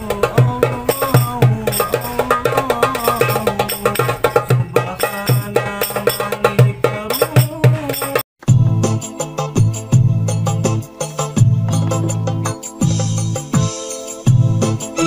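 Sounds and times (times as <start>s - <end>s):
hand drums beating rhythm: 0.0s - 8.9s, 9.9s - 14.7s.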